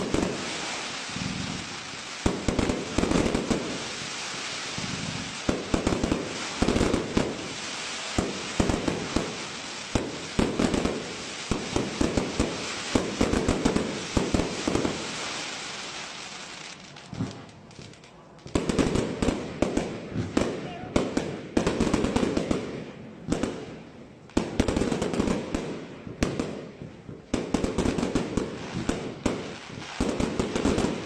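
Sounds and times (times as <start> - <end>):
fireworks bursts and bangs: 0.0 - 31.0
fireworks crackling: 0.0 - 31.0.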